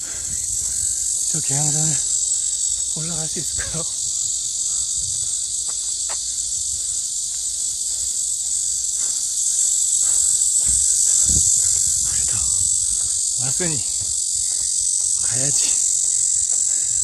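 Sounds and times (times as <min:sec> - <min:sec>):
insects singing: 0:00.0 - 0:17.0.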